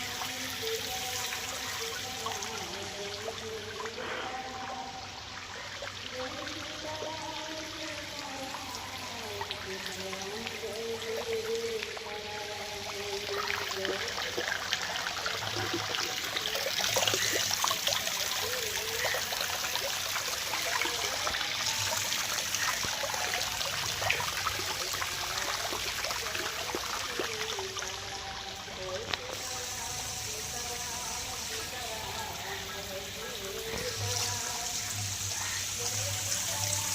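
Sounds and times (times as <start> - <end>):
water splashing and trickling: 0.0 - 36.9.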